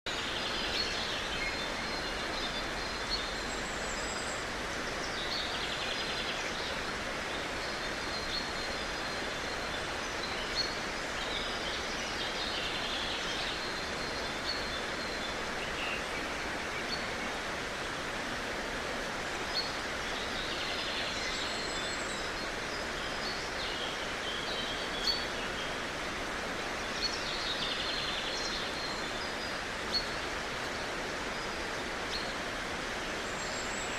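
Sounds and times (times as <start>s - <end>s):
birds singing and trilling: 0.1s - 33.9s
stream rushing: 0.1s - 33.9s.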